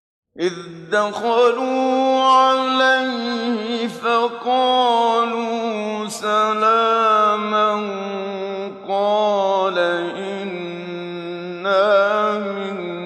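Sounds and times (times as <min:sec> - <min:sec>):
man chanting melodically: 0:00.4 - 0:13.0.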